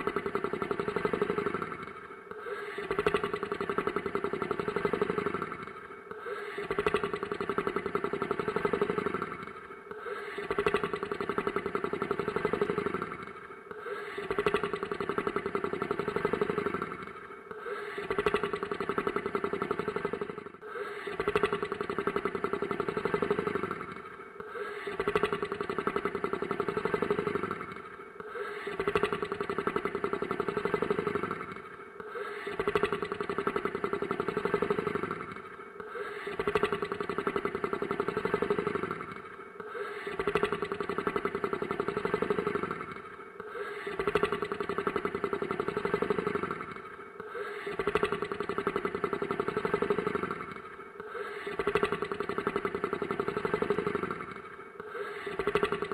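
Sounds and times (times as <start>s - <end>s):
monster snoring: 0.0s - 55.9s.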